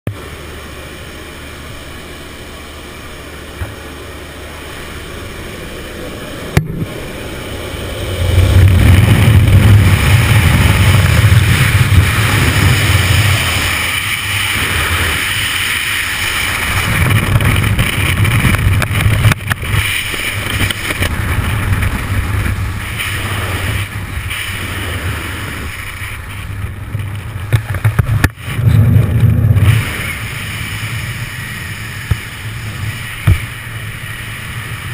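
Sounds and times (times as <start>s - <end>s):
airplane engine drone: 0.1s - 34.9s
wind buffeting microphone: 6.0s - 34.9s.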